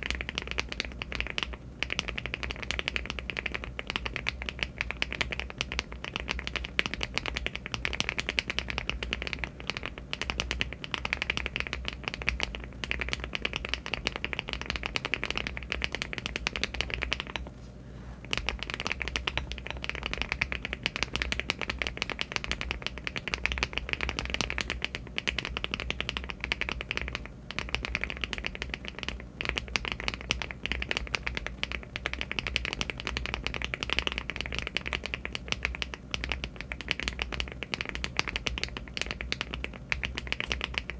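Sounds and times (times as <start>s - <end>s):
fast mechanical keyboard typing: 0.0s - 17.4s, 18.3s - 40.9s.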